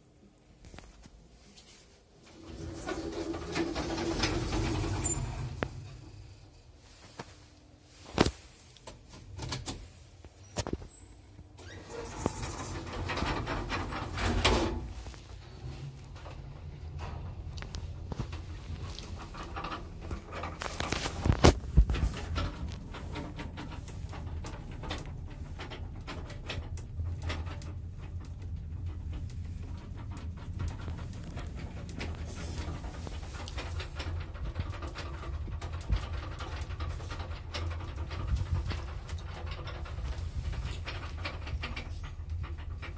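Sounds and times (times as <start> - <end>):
sliding doors clicking and knocking: 2.2 - 6.3, 8.9 - 10.0, 11.6 - 42.9
lift running rumble: 2.2 - 7.1, 11.7 - 42.9.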